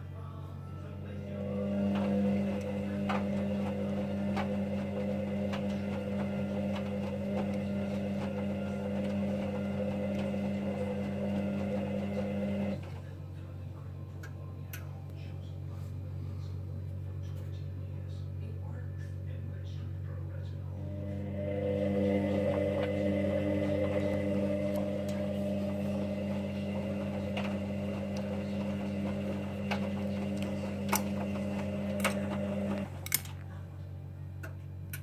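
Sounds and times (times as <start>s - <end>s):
washing machine motor humming: 0.0s - 18.4s, 20.6s - 35.0s.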